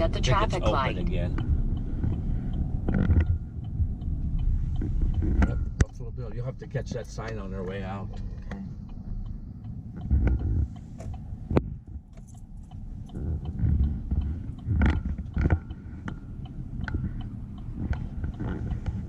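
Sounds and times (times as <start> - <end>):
vehicle rumble inside cab: 0.0 - 19.0.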